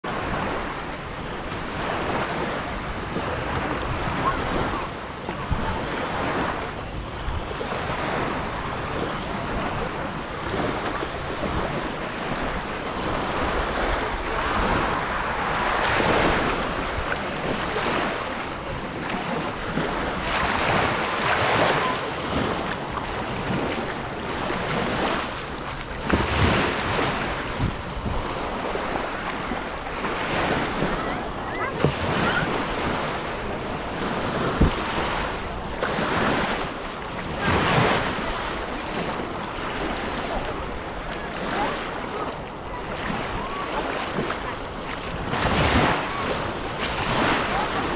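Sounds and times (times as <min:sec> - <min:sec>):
surf breaking on shore: 0:00.0 - 0:47.9
wind buffeting microphone: 0:00.0 - 0:47.9.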